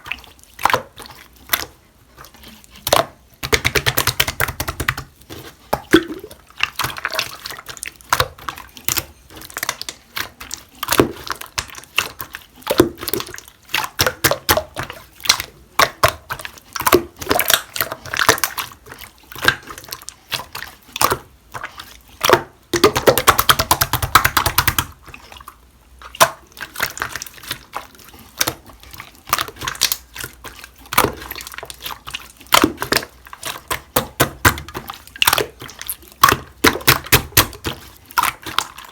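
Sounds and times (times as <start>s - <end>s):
hands squishing wet slime: 0.0s - 38.9s.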